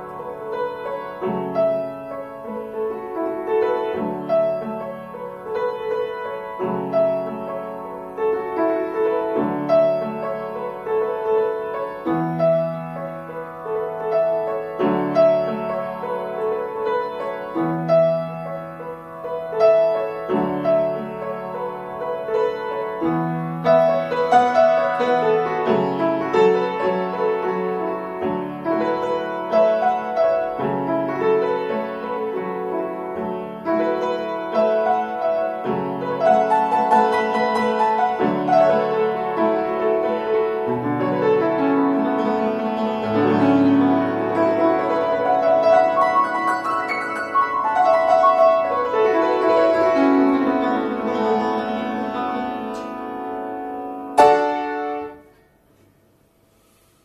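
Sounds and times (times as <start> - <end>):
upright piano playing: 0.0 - 55.7.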